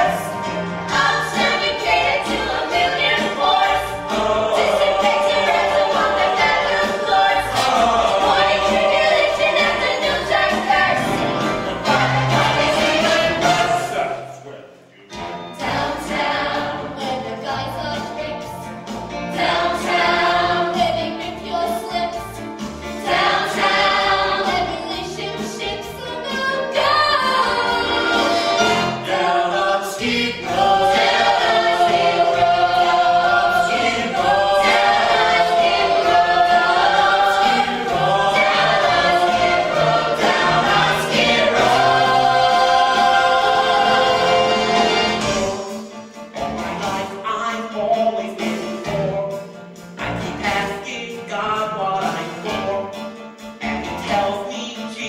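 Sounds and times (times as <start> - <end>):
men and women singing together: 0.0 - 14.2, 15.5 - 18.5, 19.2 - 22.2, 23.0 - 53.0.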